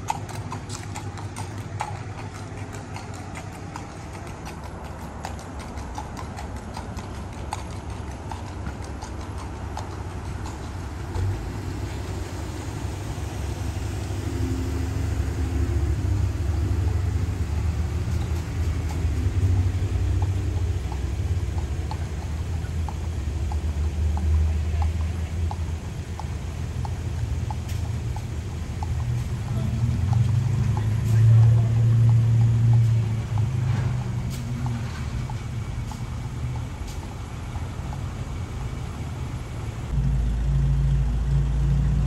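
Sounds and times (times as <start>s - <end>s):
horse hooves clip-clopping on asphalt: 0.0s - 40.0s
car engine rumble: 0.0s - 42.0s.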